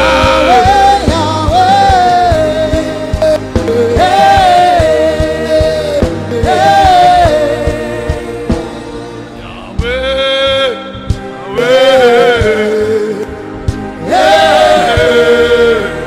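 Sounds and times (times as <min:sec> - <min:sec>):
gospel backing music with beat: 0:00.0 - 0:16.0.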